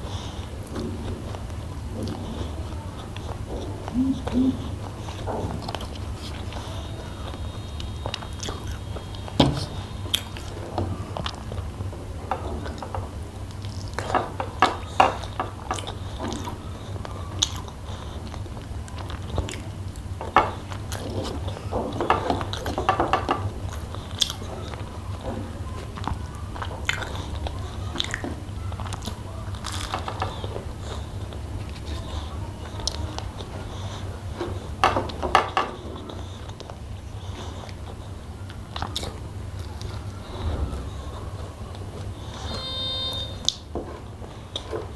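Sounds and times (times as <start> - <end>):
person chewing food: 0.0 - 44.9
steady low hum: 0.0 - 44.9.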